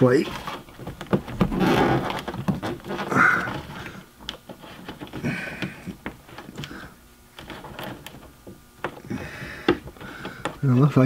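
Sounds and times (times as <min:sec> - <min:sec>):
scraping and rubbing of rubber: 0:00.0 - 0:09.4.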